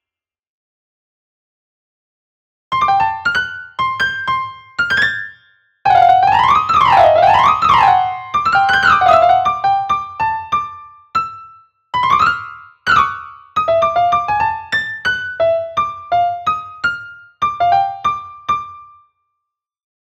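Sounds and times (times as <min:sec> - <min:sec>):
solo piano music: 0:02.7 - 0:19.1.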